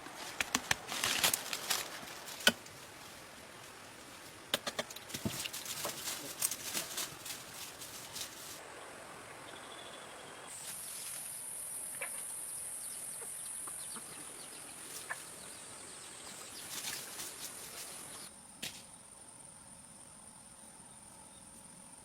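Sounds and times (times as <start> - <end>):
insects buzzing: 0.6 - 22.0.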